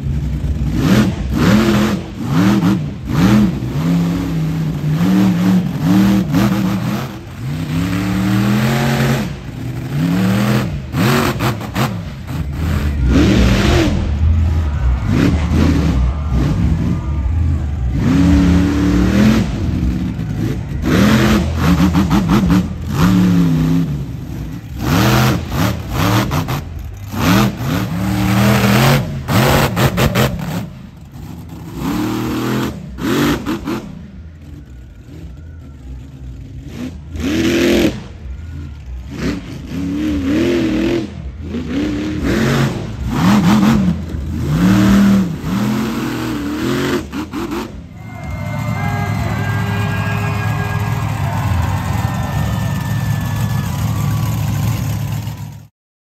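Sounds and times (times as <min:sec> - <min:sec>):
truck engine revving hard: 0:00.0 - 0:55.7.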